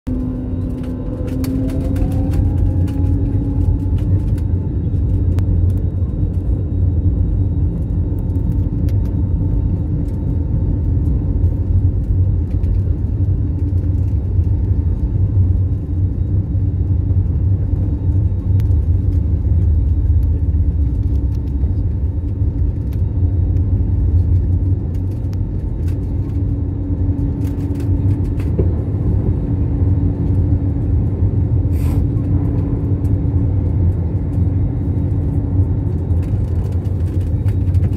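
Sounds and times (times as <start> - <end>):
airliner engine rumble in cabin: 0.1 - 37.9.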